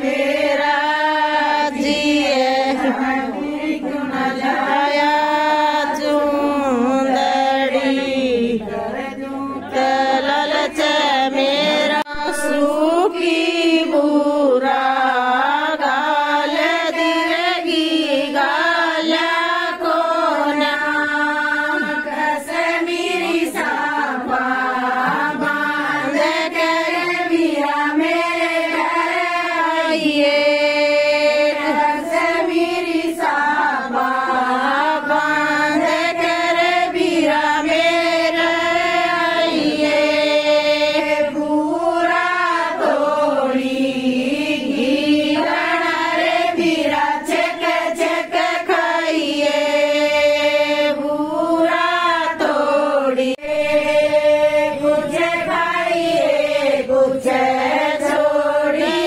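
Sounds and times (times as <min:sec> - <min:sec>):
women singing in chorus: 0:00.0 - 0:59.0.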